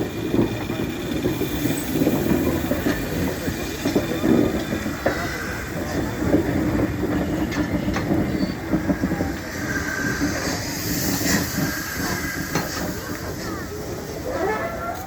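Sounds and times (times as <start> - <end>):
locomotive wheels rumbling: 0.0 - 15.0.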